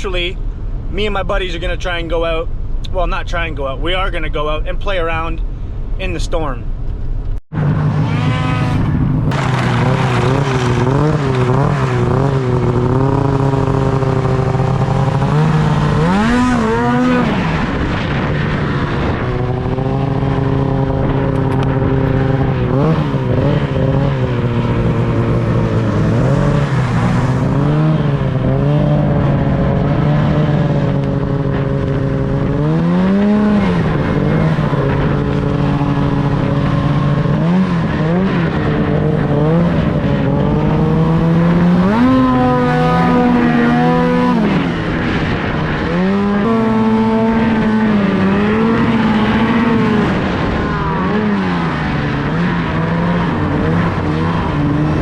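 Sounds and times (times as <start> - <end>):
snowmobile engine running: 7.6 - 55.0.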